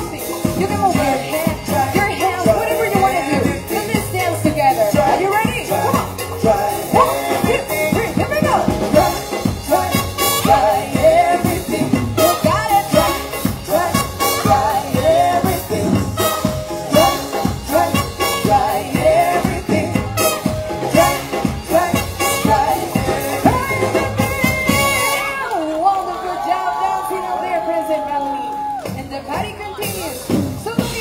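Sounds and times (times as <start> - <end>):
person singing: 0.0 - 25.2
guitar: 0.0 - 25.6
trumpet: 0.0 - 25.8
live band playing: 0.0 - 31.0.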